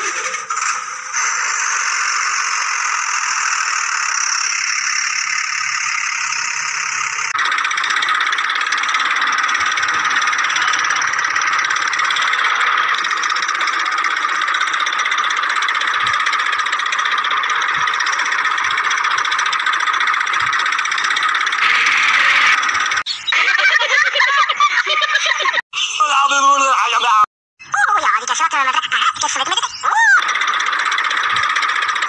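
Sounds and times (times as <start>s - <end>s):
toy vehicle engine droning: 0.0s - 25.6s, 28.5s - 32.0s.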